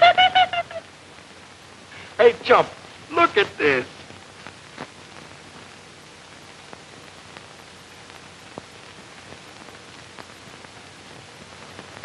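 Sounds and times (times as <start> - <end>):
film soundtrack surface hiss: 0.0 - 12.0.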